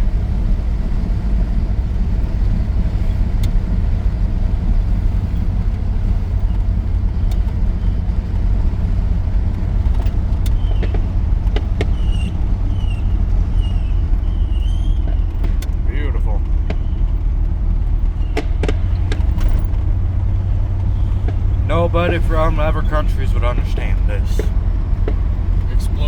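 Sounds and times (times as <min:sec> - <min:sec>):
truck engine and road noise: 0:00.0 - 0:26.0.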